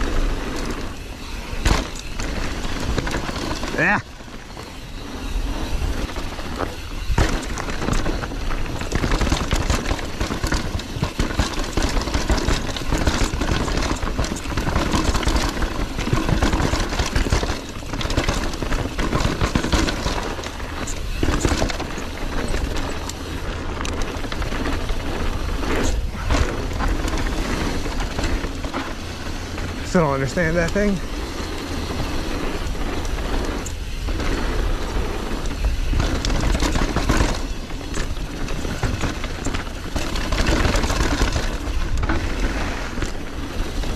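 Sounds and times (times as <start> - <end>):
bike rattling and knocking: 0.0 - 43.9
tyres running over dirt: 0.0 - 43.9.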